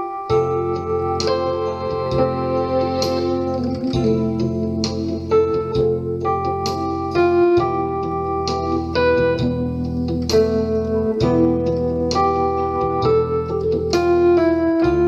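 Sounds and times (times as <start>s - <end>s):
keyboard melody over chords: 0.0s - 15.0s.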